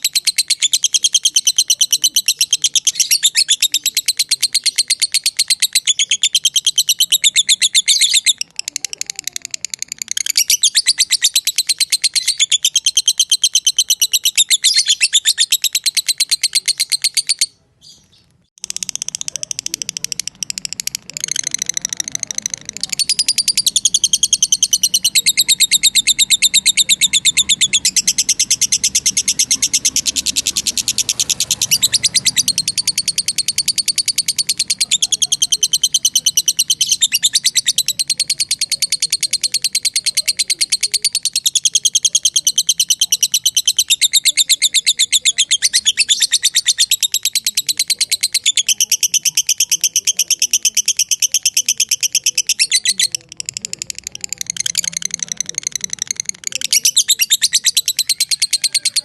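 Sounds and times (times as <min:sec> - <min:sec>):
lovebird shrill chatter: 0:00.0 - 0:18.0, 0:18.6 - 0:59.0.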